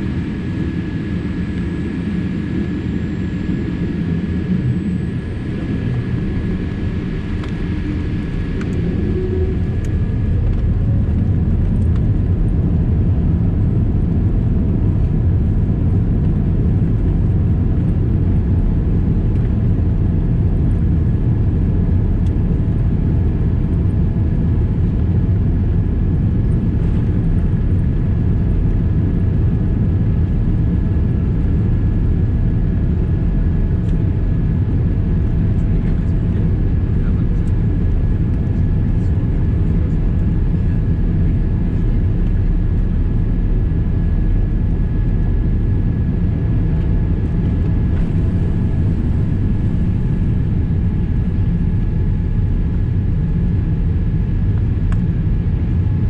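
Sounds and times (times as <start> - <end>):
aircraft cabin rumble: 0.0 - 56.0
thin steady whine: 0.0 - 56.0.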